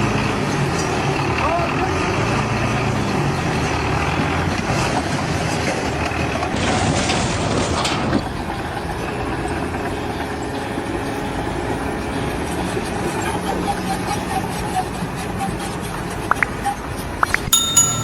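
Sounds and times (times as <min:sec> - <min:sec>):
heavy engine running: 0:00.0 - 0:16.3.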